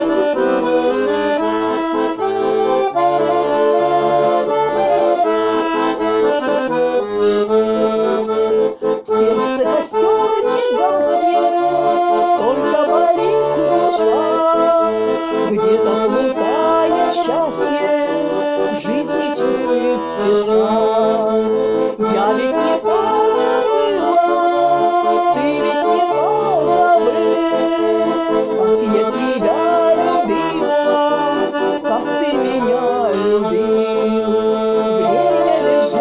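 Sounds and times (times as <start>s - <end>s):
button accordion playing melody: 0.0s - 36.0s.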